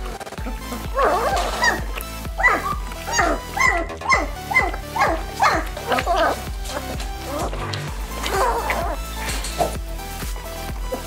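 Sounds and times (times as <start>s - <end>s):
background music with a beat: 0.0s - 11.0s
puppies whining and yipping: 0.2s - 9.8s.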